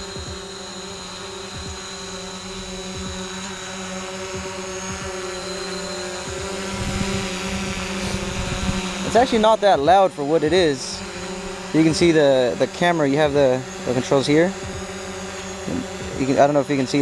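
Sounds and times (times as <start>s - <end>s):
drone propeller hum: 0.0s - 17.0s.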